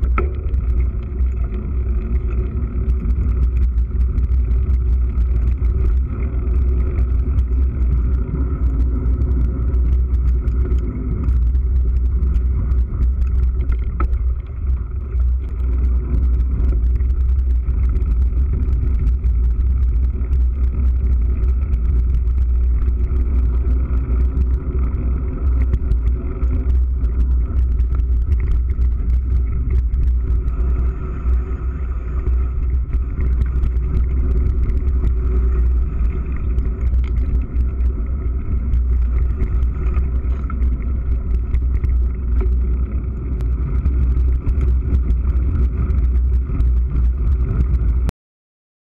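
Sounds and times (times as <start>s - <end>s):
bike rattling over bumps: 0.0s - 48.0s
heavy wind noise: 0.0s - 48.1s.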